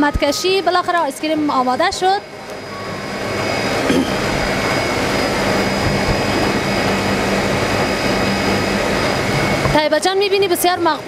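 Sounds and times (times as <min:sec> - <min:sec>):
ice cream machine running: 0:00.0 - 0:11.0.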